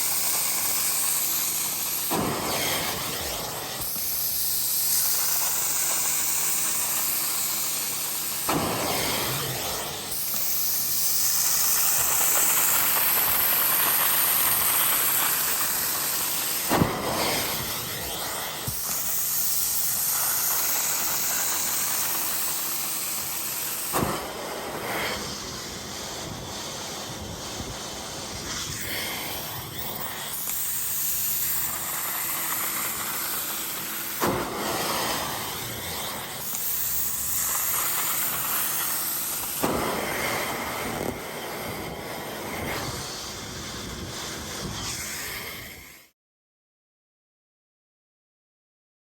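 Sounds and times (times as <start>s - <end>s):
extractor tool spraying and sucking: 0.0s - 46.1s.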